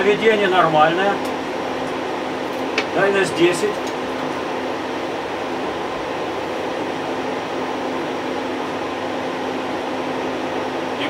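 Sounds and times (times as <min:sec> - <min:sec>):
ventilation fans humming: 0:00.0 - 0:11.0.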